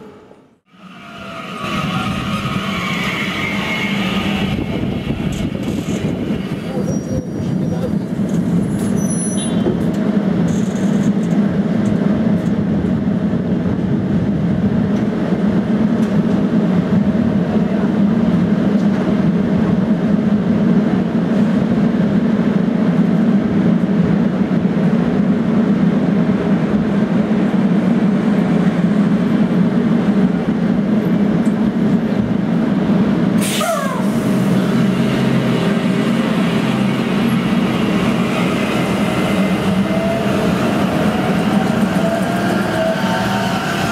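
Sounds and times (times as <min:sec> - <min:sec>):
tram equipment humming: 0:00.0 - 0:43.9
tram pulling away hum: 0:00.0 - 0:43.9.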